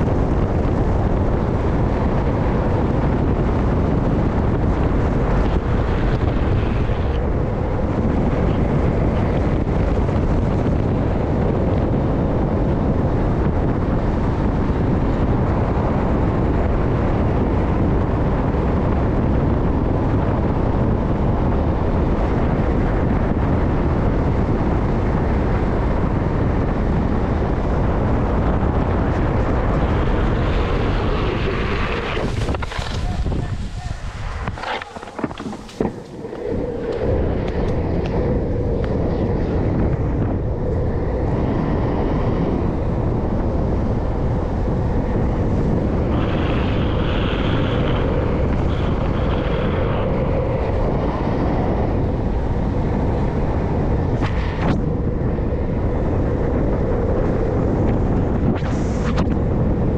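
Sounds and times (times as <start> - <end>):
low road rumble: 0.0 - 59.9
wind buffeting microphone: 0.0 - 59.9.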